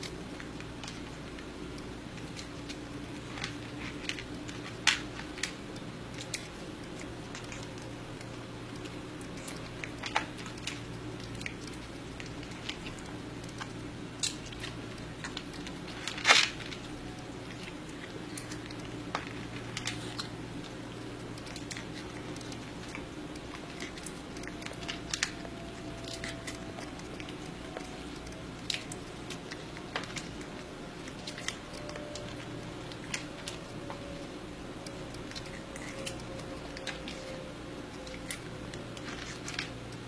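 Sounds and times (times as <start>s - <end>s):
crunching and clicking: 0.0s - 40.0s
steady low hum: 0.0s - 40.0s.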